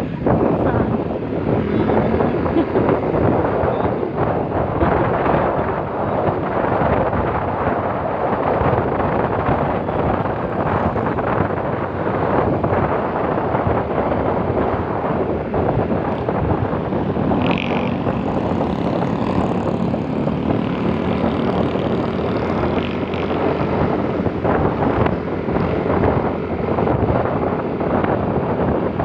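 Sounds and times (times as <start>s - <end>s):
scooter engine drone: 0.0s - 29.0s
wind rushing over microphone: 0.0s - 29.0s.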